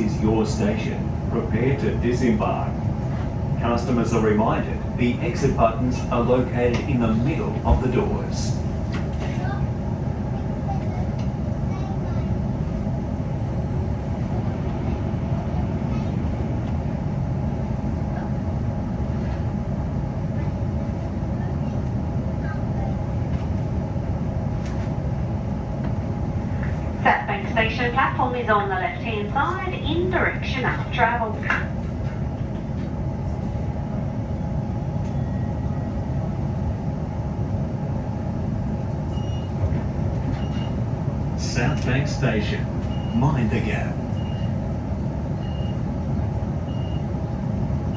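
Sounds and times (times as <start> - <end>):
train rumbling along track: 0.0 - 47.9.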